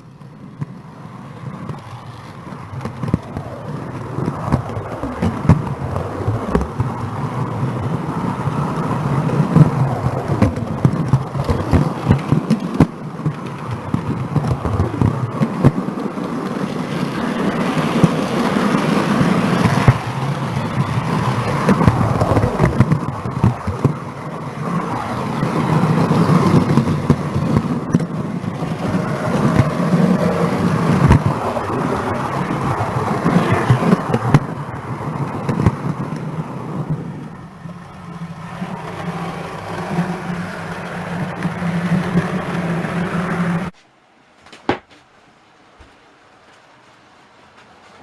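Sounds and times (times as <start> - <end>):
model train wheels rattling on track: 0.0 - 43.7.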